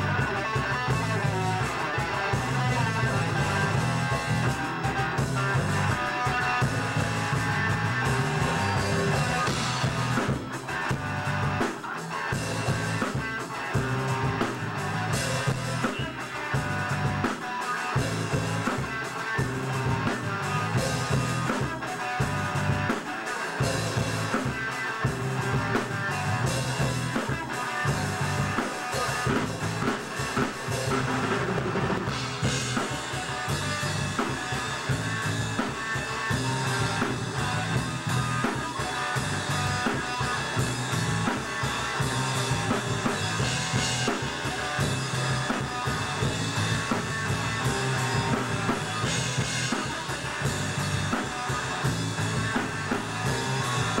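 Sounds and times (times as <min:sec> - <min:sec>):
electric guitar: 0:00.0 - 0:54.0.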